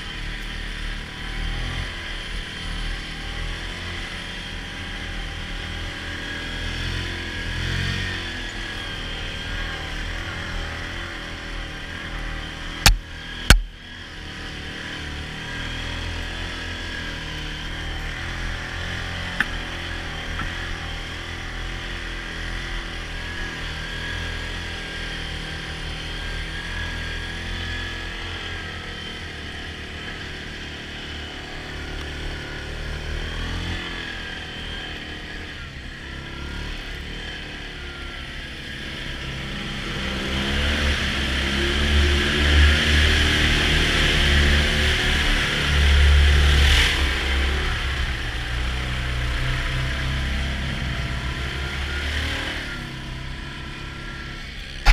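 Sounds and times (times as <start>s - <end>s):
atv engine running under load: 0.0s - 54.9s.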